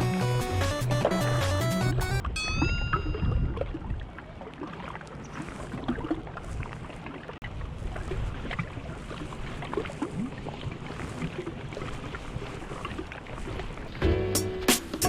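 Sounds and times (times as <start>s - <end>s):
wind rumbling on microphone: 2.2s - 15.0s.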